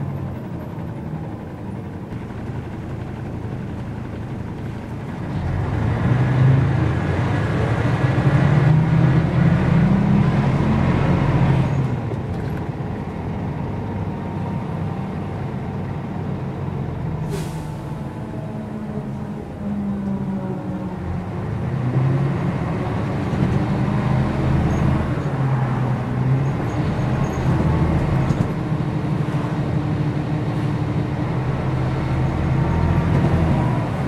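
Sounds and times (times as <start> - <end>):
bus diesel engine rumbling: 0.0 - 34.0.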